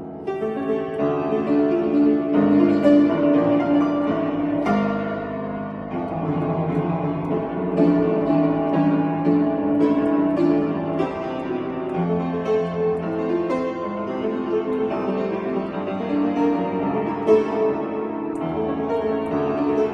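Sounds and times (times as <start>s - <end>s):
classical piano piece: 0.0s - 19.9s.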